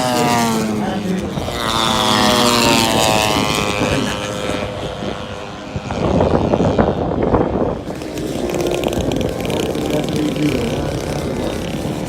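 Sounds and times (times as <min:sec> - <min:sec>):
model airplane engine flying past: 0:00.0 - 0:12.0
rough rushing noise: 0:00.0 - 0:12.0.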